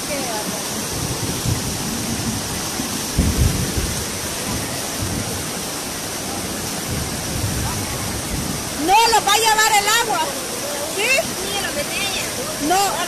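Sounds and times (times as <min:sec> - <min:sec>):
floodwater rushing: 0:00.0 - 0:13.0
heavy rain pouring: 0:00.0 - 0:13.0.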